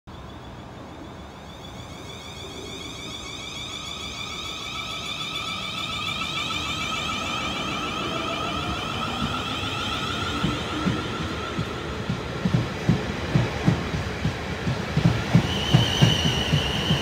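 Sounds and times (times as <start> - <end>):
electric train whine: 0.1 - 17.0
train rumble: 0.1 - 17.0.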